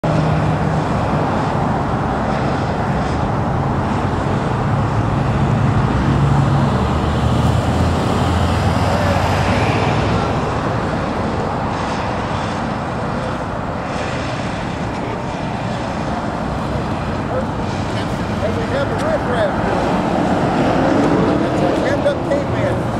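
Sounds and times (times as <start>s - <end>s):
highway traffic passing: 0.0s - 22.9s
vehicle driving close by: 0.0s - 22.9s.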